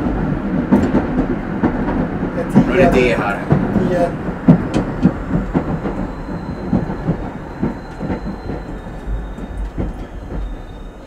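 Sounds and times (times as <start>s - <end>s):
tram rumbling: 0.0s - 11.0s
wheels clattering on rails: 0.0s - 11.0s.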